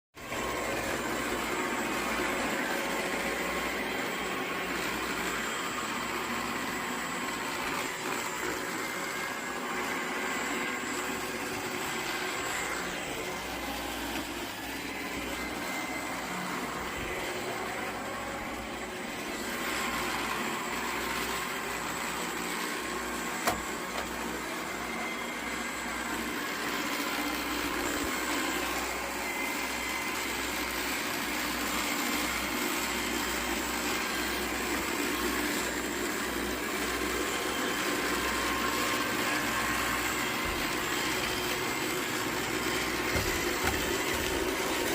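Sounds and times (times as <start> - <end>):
robot vacuum motor whirring: 0.2 - 44.9.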